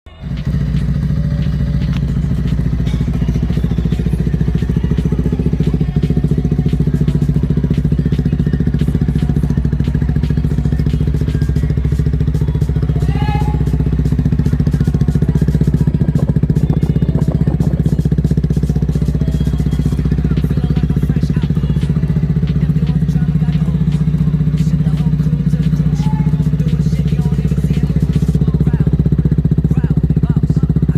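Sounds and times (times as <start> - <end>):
motorcycle engine idling: 0.1 - 30.9.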